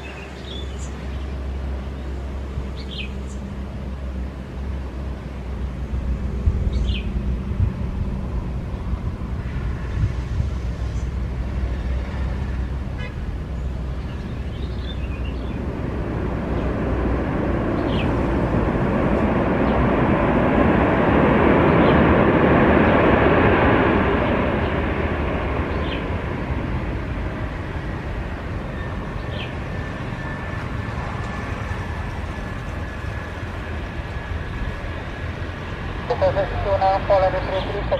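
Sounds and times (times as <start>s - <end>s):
airliner engine noise: 0.0s - 37.9s.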